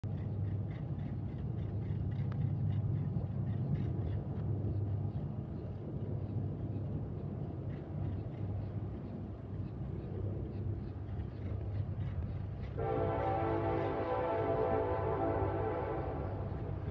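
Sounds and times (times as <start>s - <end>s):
distant freight train rumble: 0.0s - 16.9s.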